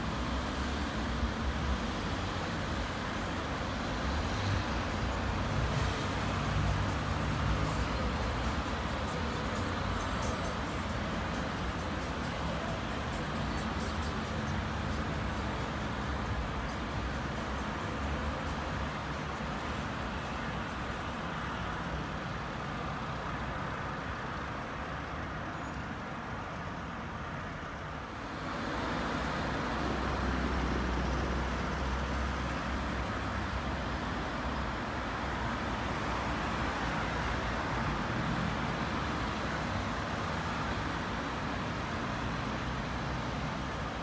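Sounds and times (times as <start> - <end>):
passing cars: 0.0 - 44.0.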